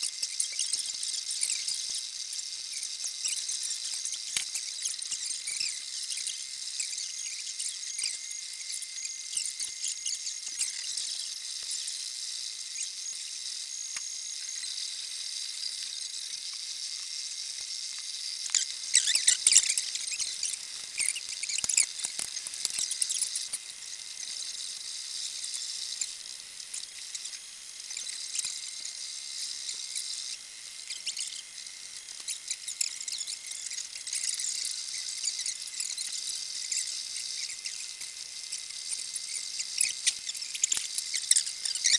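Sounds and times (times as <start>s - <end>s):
printer motors chirping and whirring: 0.0s - 41.9s.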